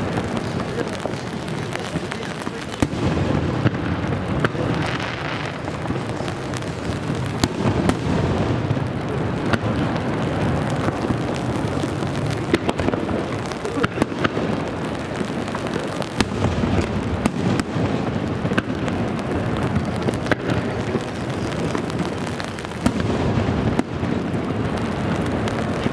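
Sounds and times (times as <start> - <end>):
fireworks bangs and crackles: 0.0 - 25.9
rain on an umbrella: 0.0 - 25.9.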